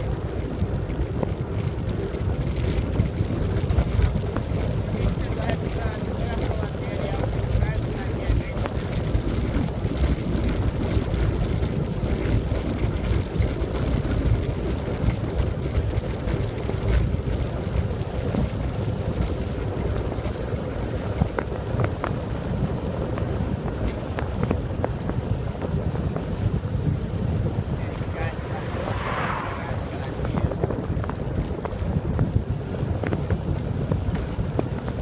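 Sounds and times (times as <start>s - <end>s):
bicycle tyre noise on asphalt: 0.0s - 35.0s
wind buffeting microphone: 0.0s - 35.0s.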